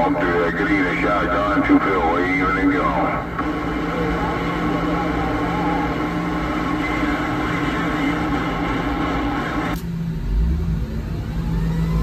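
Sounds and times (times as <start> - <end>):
radio static: 0.0 - 9.8
faint steady tones: 0.0 - 12.0
low rumble: 0.0 - 12.0.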